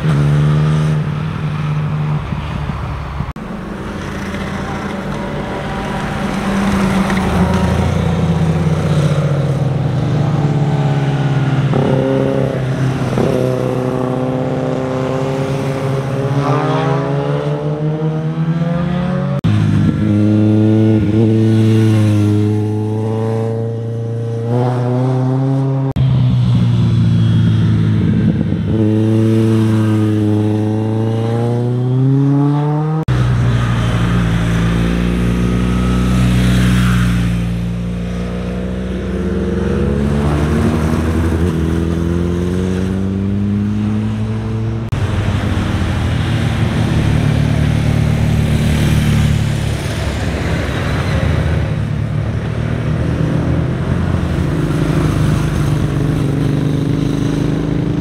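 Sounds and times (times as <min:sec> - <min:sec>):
motorcycle engines passing: 0:00.0 - 0:58.0.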